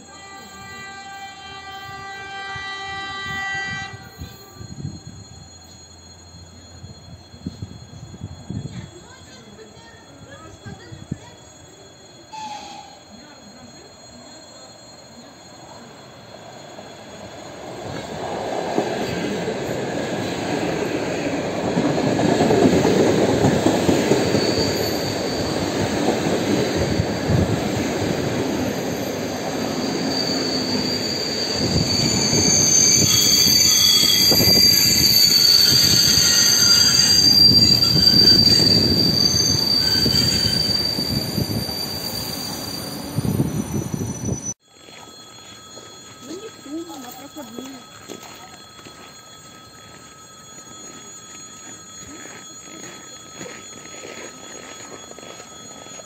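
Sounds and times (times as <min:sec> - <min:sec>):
high steady brake squeal: 0:00.0 - 0:56.0
train wheel and running noise: 0:00.0 - 0:56.0.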